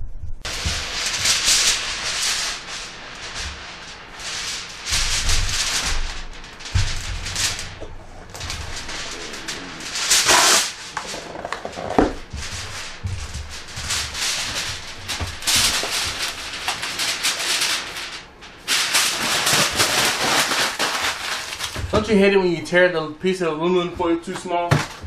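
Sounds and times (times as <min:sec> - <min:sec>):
foil tearing: 0:00.4 - 0:23.0, 0:24.0 - 0:25.0
aluminum foil crinkling: 0:00.4 - 0:25.0.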